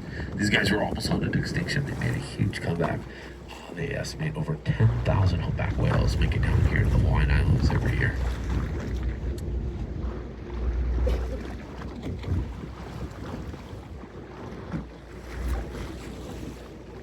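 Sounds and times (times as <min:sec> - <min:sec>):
boat motor rumble: 0:00.0 - 0:17.0
water noise: 0:00.0 - 0:17.0
wind buffeting microphone: 0:00.0 - 0:17.0.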